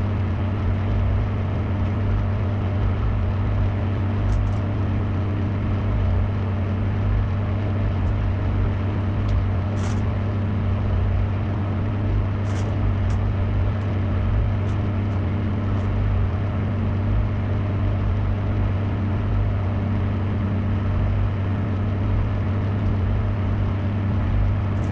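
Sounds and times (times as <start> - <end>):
microwave oven humming: 0.0 - 24.9.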